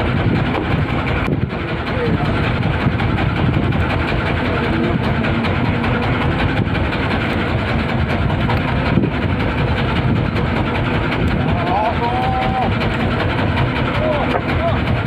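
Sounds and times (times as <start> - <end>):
boat engine rumbling: 0.0 - 15.0
wind and sea noise: 0.0 - 15.0.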